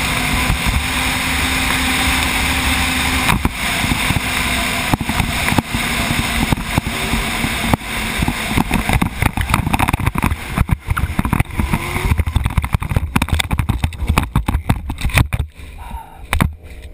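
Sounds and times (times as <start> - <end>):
motorcycle engine at speed: 0.0 - 16.9
wind rush on microphone: 0.0 - 16.9.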